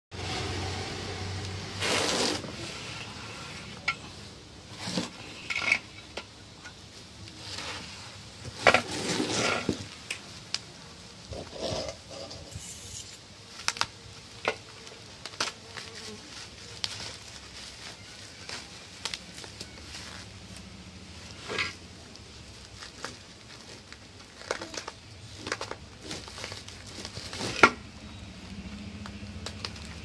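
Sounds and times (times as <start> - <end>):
cardboard scraping: 0.2 - 6.2, 7.0 - 10.1, 11.2 - 28.0
bubble wrap crinkling: 0.2 - 30.0.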